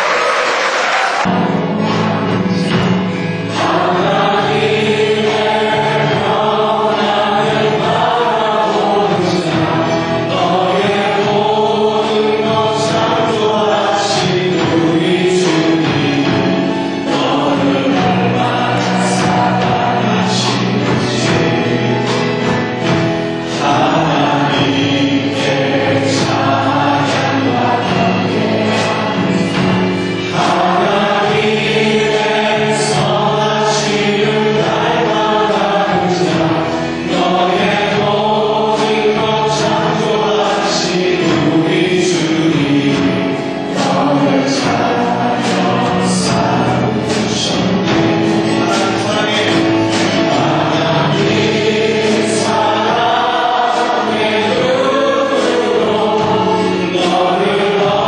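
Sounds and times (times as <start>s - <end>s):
choir singing into microphones: 0.0s - 58.0s
live band playing: 0.0s - 58.0s.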